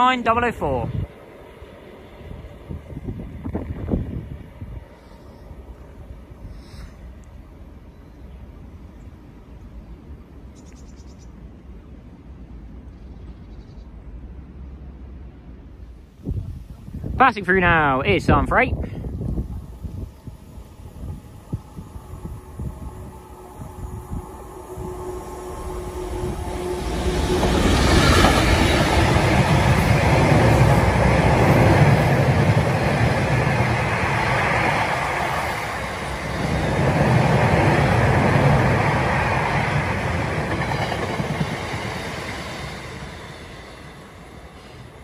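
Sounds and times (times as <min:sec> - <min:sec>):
diesel locomotive passing: 0:00.0 - 0:45.0.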